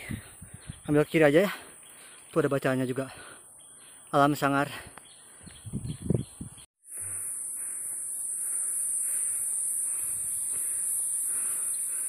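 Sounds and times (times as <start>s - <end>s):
insect chorus droning: 0.0s - 5.6s, 6.8s - 12.0s.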